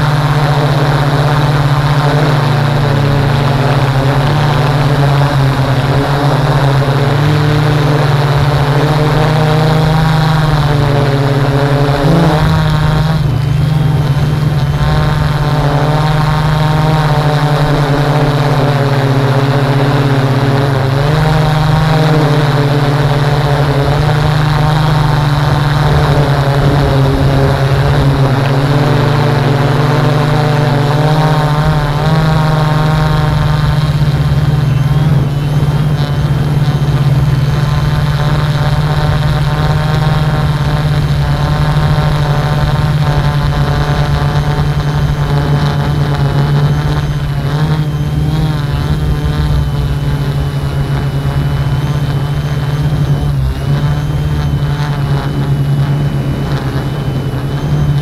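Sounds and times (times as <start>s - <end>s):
drone propellers whirring: 0.0s - 58.0s.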